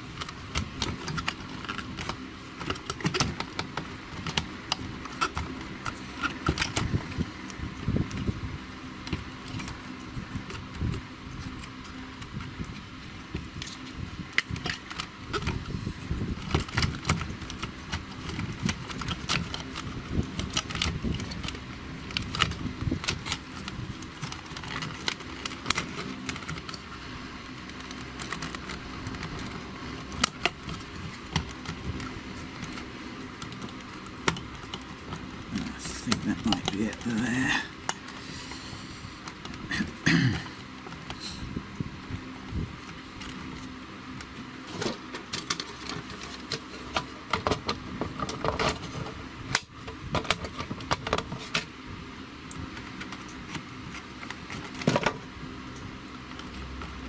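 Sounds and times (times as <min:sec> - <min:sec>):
clicks and rattles of handling parts: 0:00.0 - 0:08.3, 0:09.0 - 0:38.2, 0:42.8 - 0:51.7, 0:52.5 - 0:57.0
steady low hum: 0:00.0 - 0:57.0.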